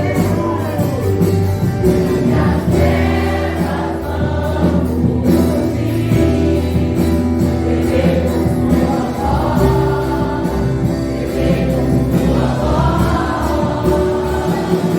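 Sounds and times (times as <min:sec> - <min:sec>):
gospel band with steady bass: 0:00.0 - 0:14.9
group of voices singing: 0:00.0 - 0:14.9.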